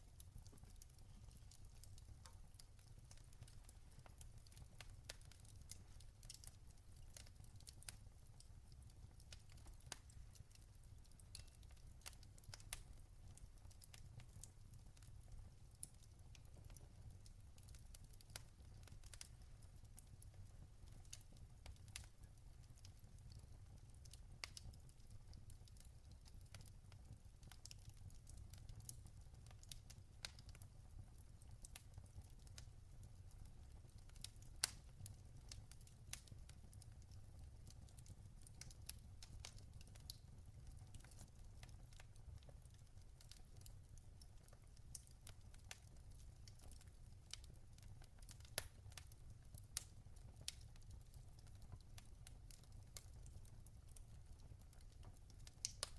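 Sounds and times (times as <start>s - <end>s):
log fire crackling: 0.0s - 55.9s.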